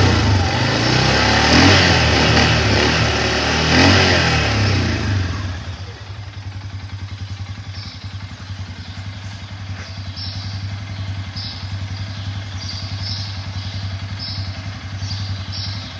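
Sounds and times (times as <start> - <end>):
atv engine idling: 0.0 - 15.9.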